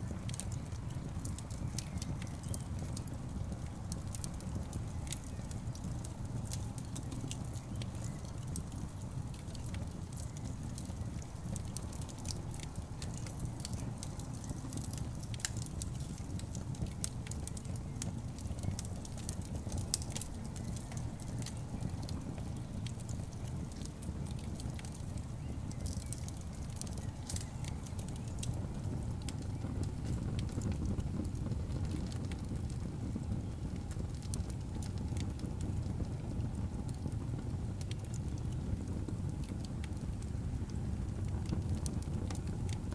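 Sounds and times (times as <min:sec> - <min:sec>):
fire rumbling: 0:00.0 - 0:42.9
logs crackling and popping: 0:00.0 - 0:42.9.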